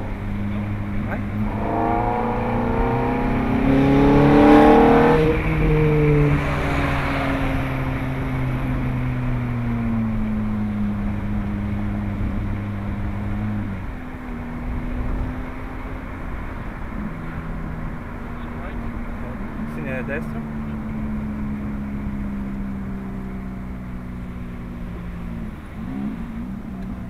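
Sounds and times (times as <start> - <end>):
gear change: 0.0 - 27.0
sports car engine accelerating: 0.0 - 27.0.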